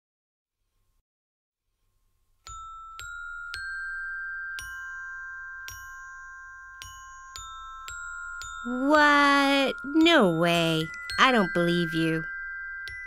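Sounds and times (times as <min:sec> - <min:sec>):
bell-like mallet notes: 0:02.5 - 0:13.0.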